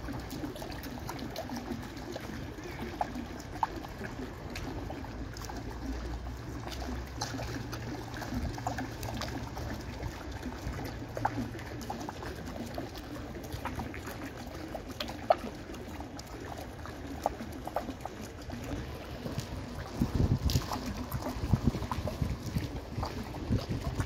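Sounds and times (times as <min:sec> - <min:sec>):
fountain water trickling and splashing: 0:00.0 - 0:24.0.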